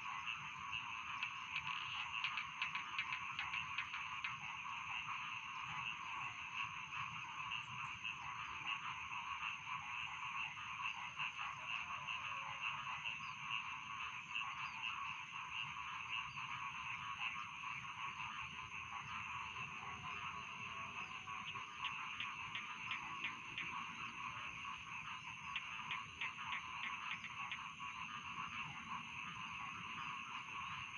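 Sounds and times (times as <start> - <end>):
frogs croaking: 0.0 - 30.9.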